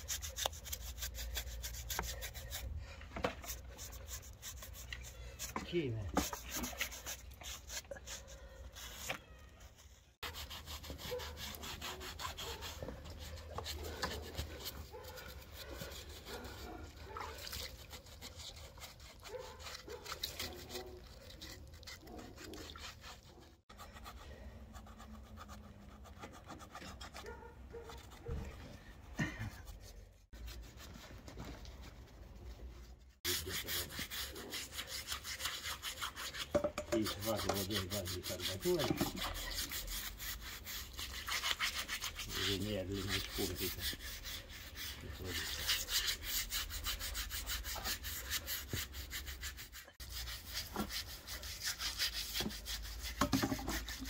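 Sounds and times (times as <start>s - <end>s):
knife scraping charred skin: 0.0s - 28.3s, 33.2s - 54.0s.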